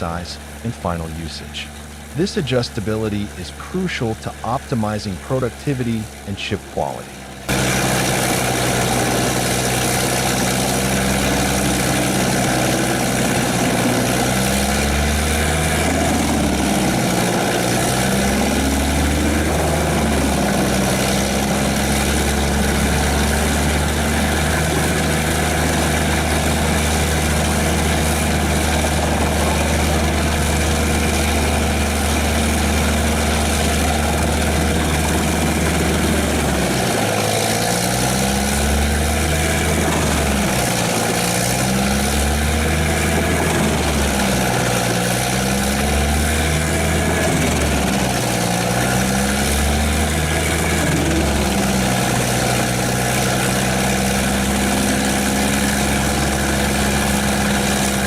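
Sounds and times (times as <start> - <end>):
wood chipper engine running: 0.0 - 58.0.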